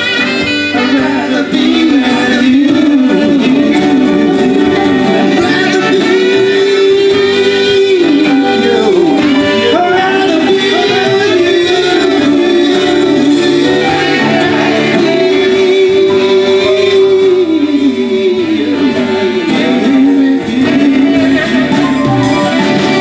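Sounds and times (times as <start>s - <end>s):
live band playing: 0.0s - 23.0s.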